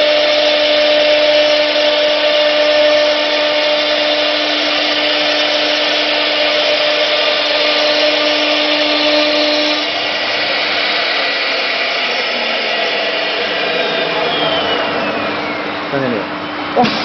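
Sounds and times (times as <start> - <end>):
router bits cutting wood: 0.0 - 16.2
router spindle whine: 0.0 - 17.0.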